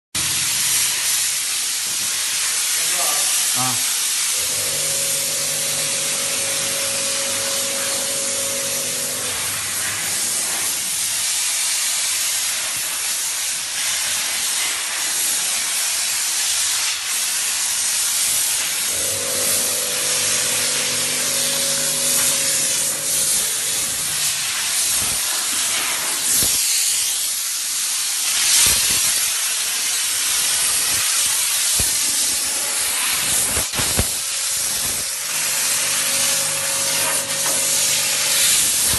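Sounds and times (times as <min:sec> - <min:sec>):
steam cleaner hissing: 0:00.2 - 0:38.9.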